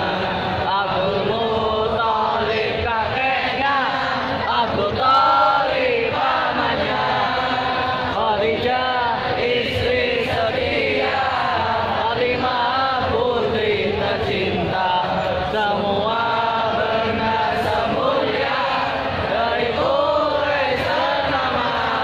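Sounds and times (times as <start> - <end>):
crowd chanting in unison: 0.0 - 22.0.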